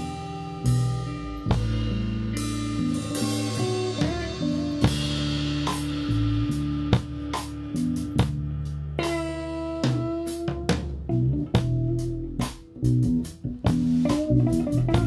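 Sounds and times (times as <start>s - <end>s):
bass guitar: 0.0s - 15.0s
drum kit and cymbal hits: 0.0s - 15.0s
electric guitar with pitch bends: 0.0s - 15.0s.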